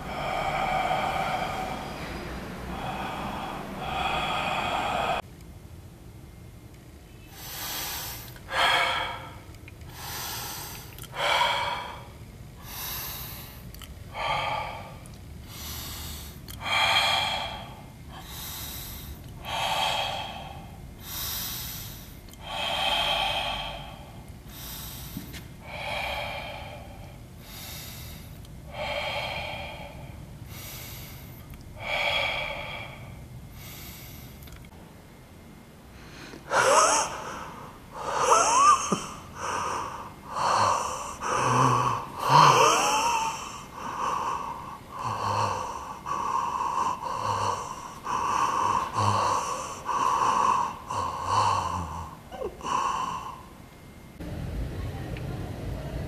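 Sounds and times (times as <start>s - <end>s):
person breathing heavily: 0.0s - 5.3s, 7.3s - 34.6s, 35.9s - 54.1s.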